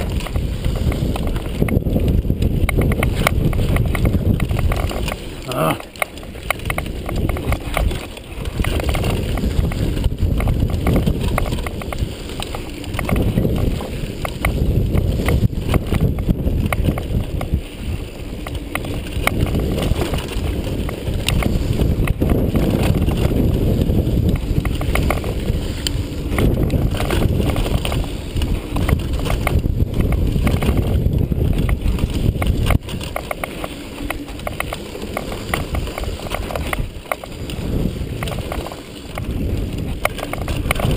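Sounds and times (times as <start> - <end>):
bike frame rattling: 0.0 - 40.9
mountain bike tyres rumbling: 0.0 - 40.9
wind on microphone: 0.0 - 40.9.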